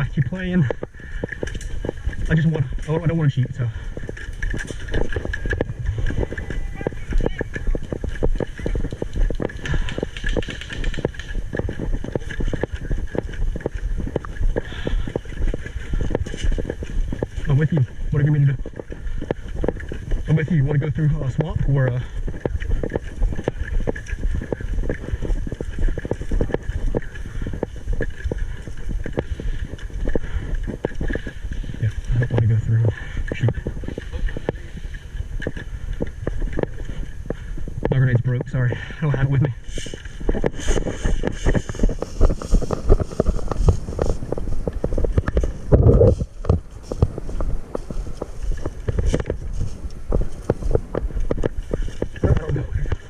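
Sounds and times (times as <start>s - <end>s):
wind rumbling on microphone: 0.0s - 53.0s.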